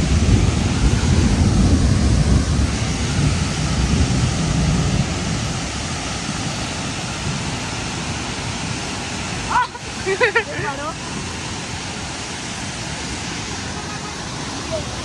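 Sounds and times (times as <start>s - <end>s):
river rushing over rocks: 0.0s - 15.0s
wind rumbling on microphone: 0.0s - 15.0s.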